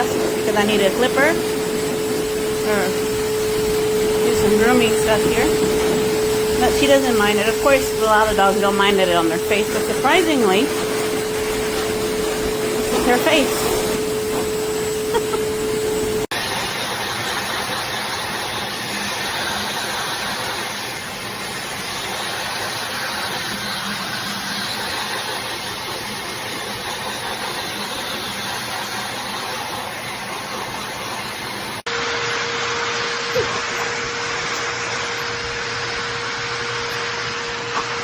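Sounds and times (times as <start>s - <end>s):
dog grooming dryer blowing: 0.0s - 38.0s.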